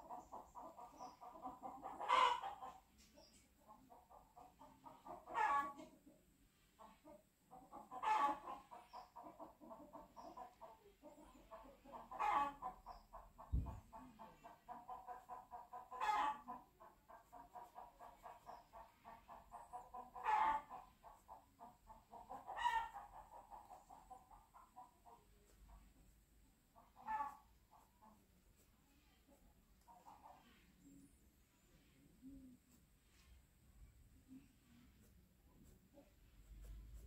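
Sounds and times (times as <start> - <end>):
chicken clucking: 0.0 - 37.0.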